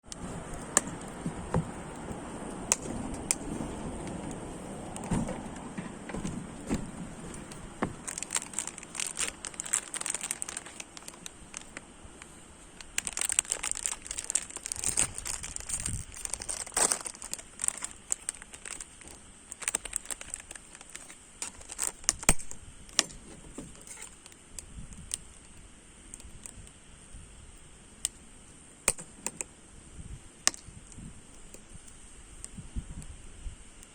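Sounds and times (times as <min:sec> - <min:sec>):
fire hissing: 0:00.0 - 0:33.8
firewood crackling and popping: 0:00.0 - 0:33.9.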